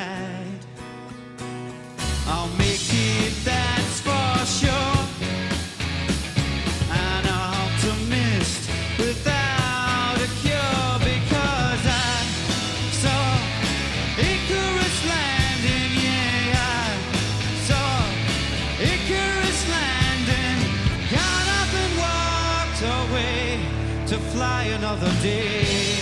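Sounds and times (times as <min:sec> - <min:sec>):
person singing: 0:00.0 - 0:00.8, 0:02.1 - 0:05.4, 0:06.8 - 0:26.0
rock band playing: 0:00.0 - 0:26.0
guitar lead line bending: 0:00.6 - 0:26.0.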